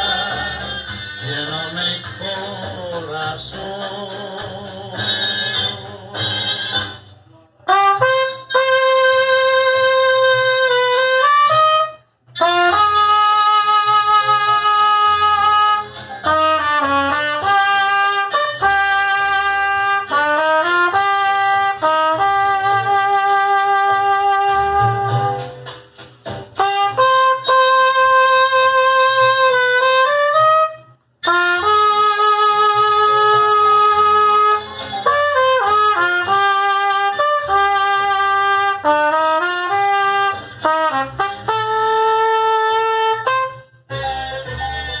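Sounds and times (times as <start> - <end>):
trumpet playing slow melody: 5.0 - 7.0, 7.7 - 25.7, 26.6 - 45.0.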